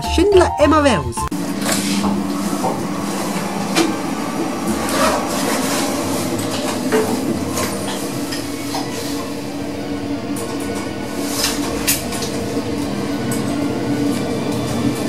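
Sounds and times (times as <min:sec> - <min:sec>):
lift humming: 0:00.0 - 0:15.0.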